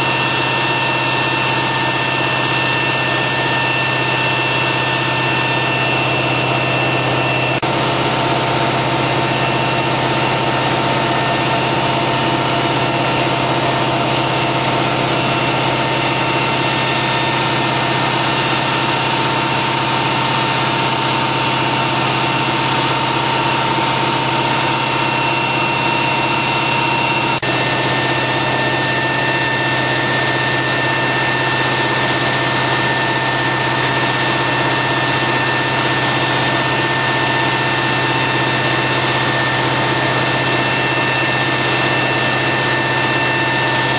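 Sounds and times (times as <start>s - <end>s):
fire engine motor droning: 0.0s - 43.9s.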